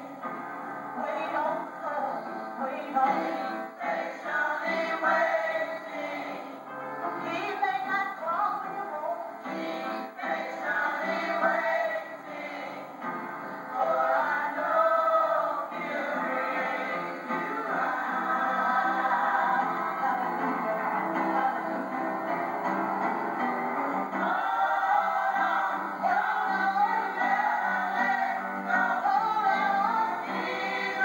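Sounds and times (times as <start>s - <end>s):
choir singing gospel: 0.0s - 31.0s.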